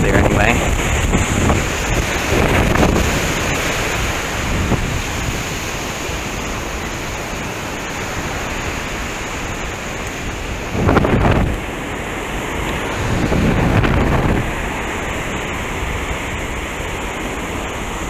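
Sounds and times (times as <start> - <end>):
surf washing on beach: 0.0 - 18.0
wind buffeting microphone: 0.0 - 18.0.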